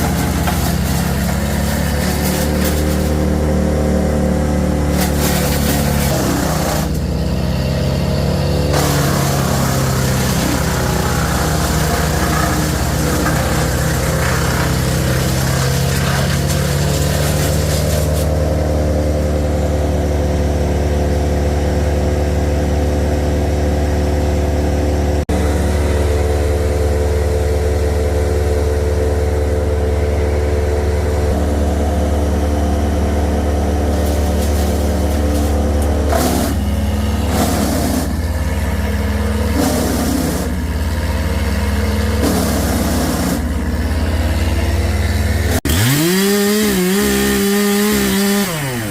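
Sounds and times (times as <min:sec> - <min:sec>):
large engine humming: 0:00.0 - 0:48.9.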